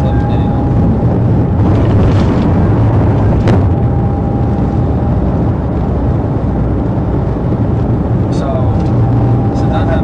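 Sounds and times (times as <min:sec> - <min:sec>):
vehicle driving low rumble: 0:00.0 - 0:10.0.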